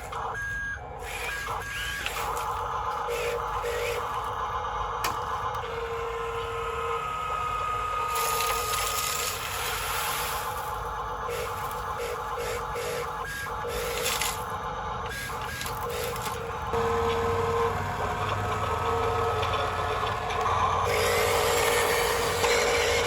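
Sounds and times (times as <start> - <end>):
toy electric motors whirring: 0.0 - 23.0.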